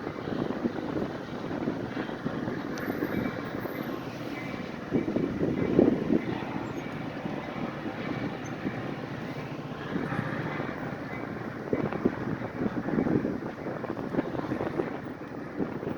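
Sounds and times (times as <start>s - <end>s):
train rumbling: 0.0s - 15.7s.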